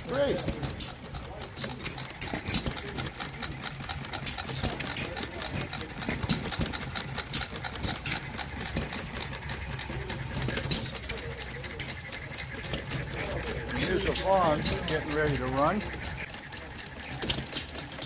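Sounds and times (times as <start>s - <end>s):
model gas engines clattering: 0.0s - 18.0s.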